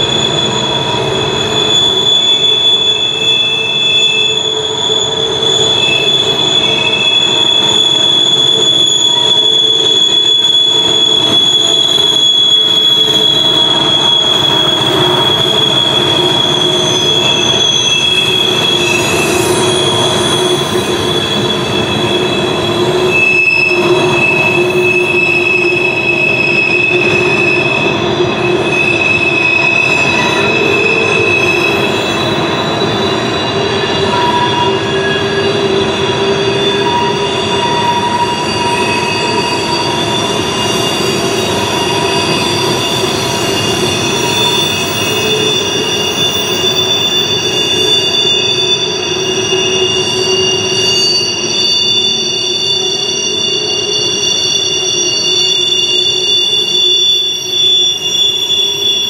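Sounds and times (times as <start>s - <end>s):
wheel flanges squealing: 0.0s - 59.0s.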